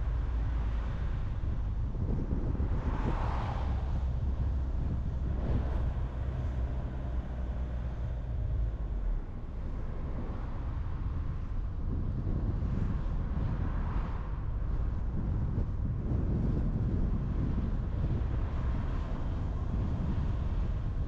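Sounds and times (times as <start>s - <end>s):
low road rumble: 0.0s - 21.0s
tyre and wind noise: 0.0s - 21.0s.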